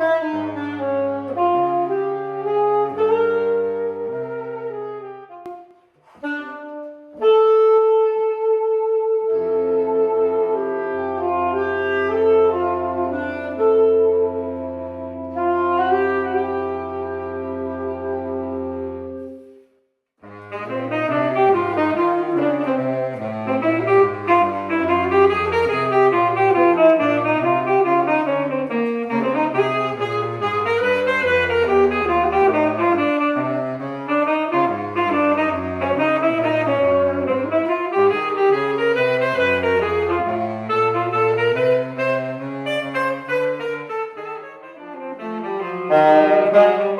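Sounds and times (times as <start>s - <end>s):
saxophone playing fast lines: 0.0s - 19.4s, 20.5s - 46.9s
jazz quartet chord: 6.4s - 19.6s, 20.5s - 46.9s.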